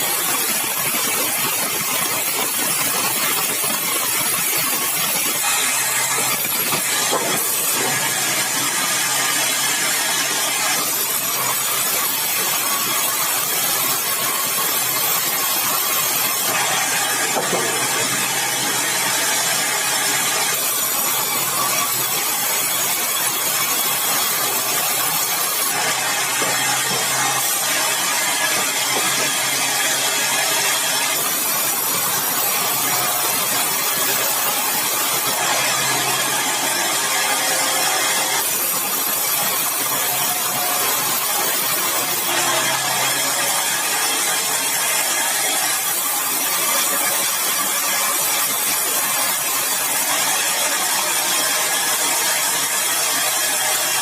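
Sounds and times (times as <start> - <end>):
sawmill machine running: 0.0 - 54.0.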